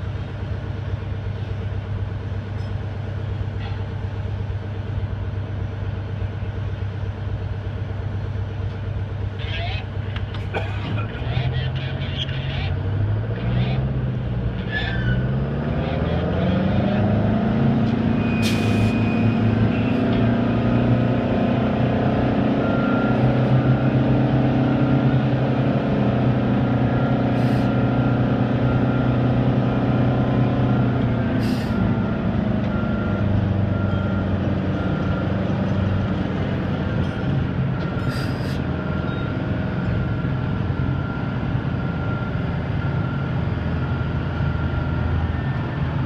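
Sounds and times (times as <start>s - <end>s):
crane diesel engine revving: 3.1s - 46.0s.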